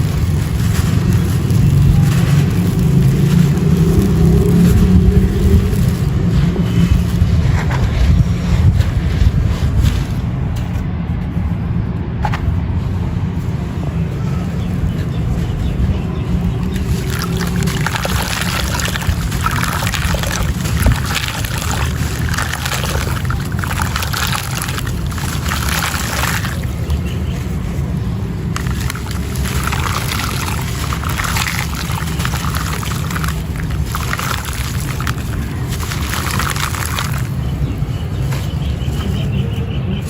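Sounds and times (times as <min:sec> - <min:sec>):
sand and cement crumbling: 0:00.0 - 0:11.6, 0:12.4 - 0:40.0.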